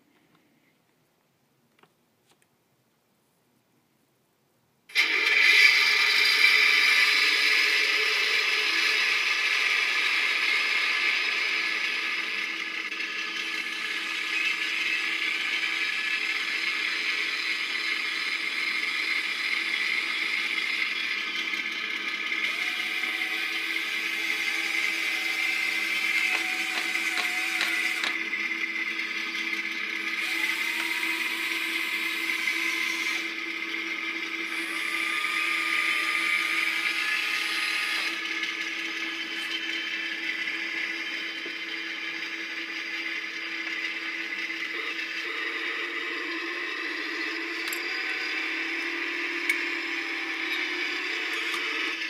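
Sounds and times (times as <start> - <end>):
model excavator motors whirring: 4.9 - 52.0.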